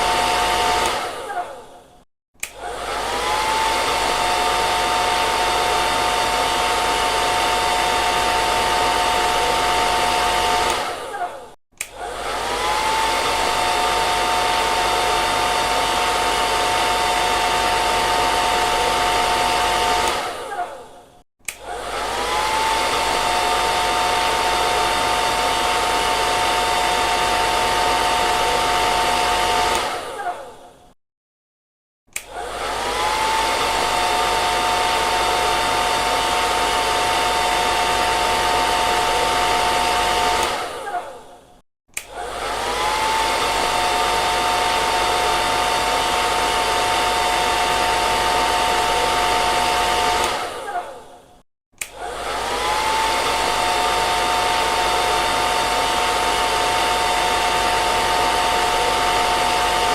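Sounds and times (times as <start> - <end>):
hair dryer running: 0.0 - 30.8, 32.1 - 59.9.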